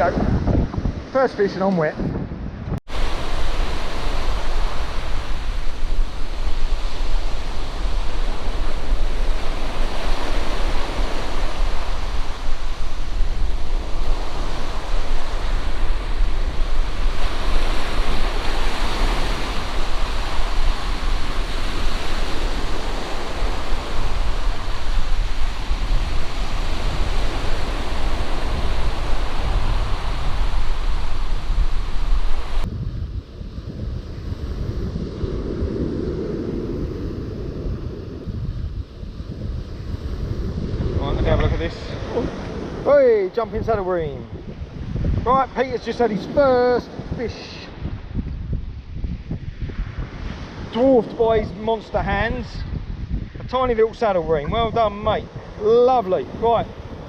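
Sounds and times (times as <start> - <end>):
sea surf on shore: 0.0 - 57.0
wind buffeting microphone: 0.0 - 57.0.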